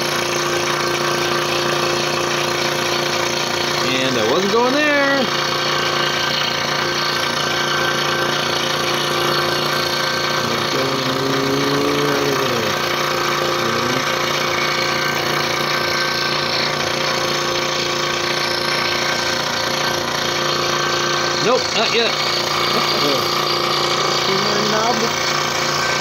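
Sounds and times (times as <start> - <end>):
scroll saw cutting wood: 0.0 - 26.0.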